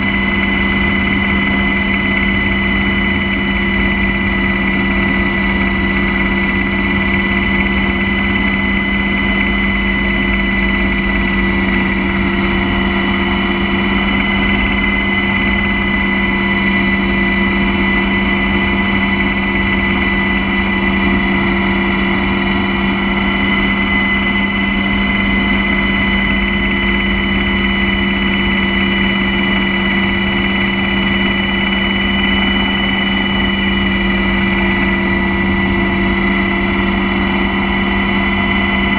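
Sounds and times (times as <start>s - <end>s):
aircraft engine drone: 0.0s - 38.9s
high whine: 0.0s - 38.9s.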